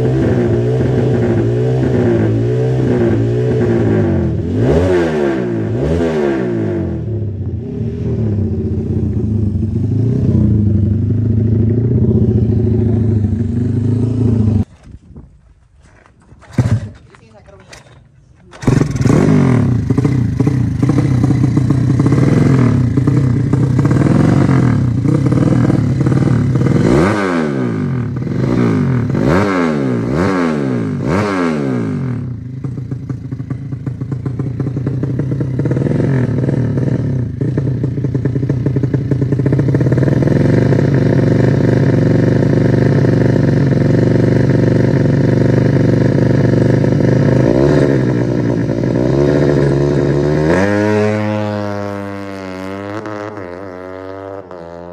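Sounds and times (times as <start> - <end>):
motorcycle engine revving and idling: 0.0 - 14.7, 16.4 - 17.8, 18.4 - 54.9.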